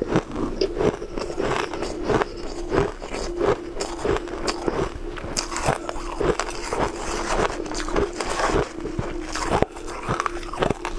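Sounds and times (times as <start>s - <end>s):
shaved ice crunching while chewed: 0.0s - 10.9s.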